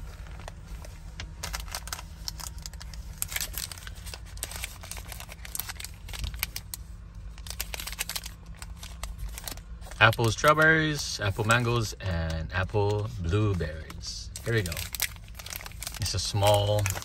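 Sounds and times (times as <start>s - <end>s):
low steady hum: 0.0s - 17.0s
plastic wrappers crinkling: 0.0s - 17.0s.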